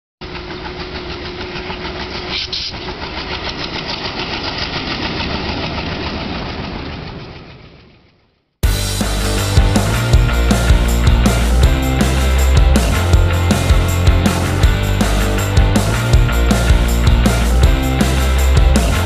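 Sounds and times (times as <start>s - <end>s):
diesel locomotive engine running: 0.2s - 19.0s.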